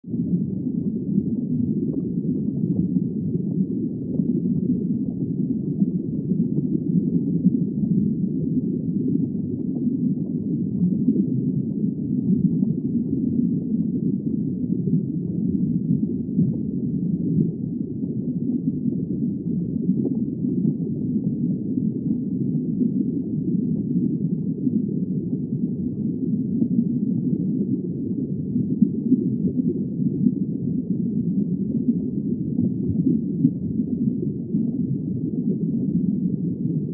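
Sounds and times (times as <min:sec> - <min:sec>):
muffled underwater rumble: 0:00.0 - 0:36.9.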